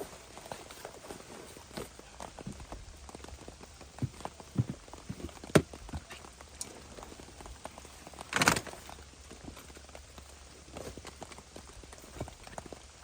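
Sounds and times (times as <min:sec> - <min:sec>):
rain dripping and ticking: 0:00.0 - 0:13.0.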